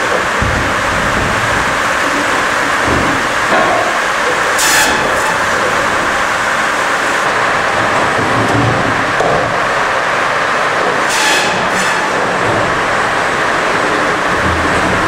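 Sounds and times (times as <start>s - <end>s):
sawmill machine cutting log: 0.0s - 10.0s, 10.7s - 15.0s.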